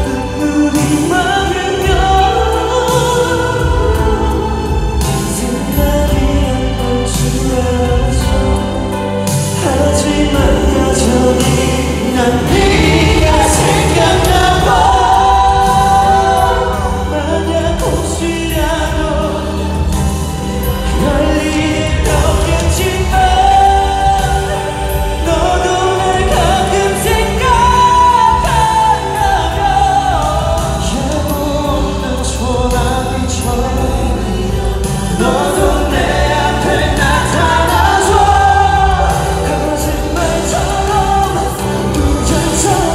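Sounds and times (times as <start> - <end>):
amplified backing track: 0.0 - 42.9
men singing into microphones: 0.0 - 42.9.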